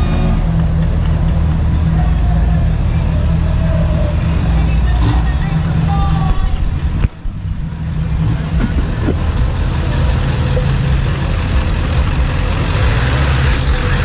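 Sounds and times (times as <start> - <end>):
pickup truck engines rumbling: 0.0 - 14.0.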